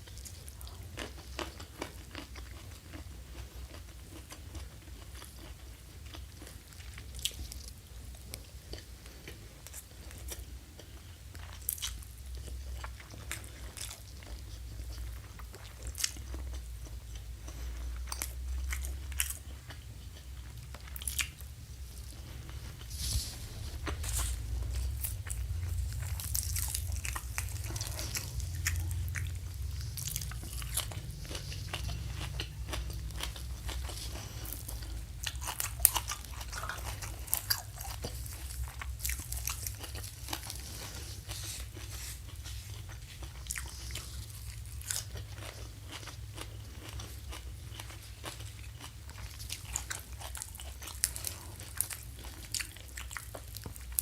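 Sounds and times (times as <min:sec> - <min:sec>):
person chewing crisp food: 0:00.0 - 0:54.0
steady low hum: 0:00.0 - 0:54.0.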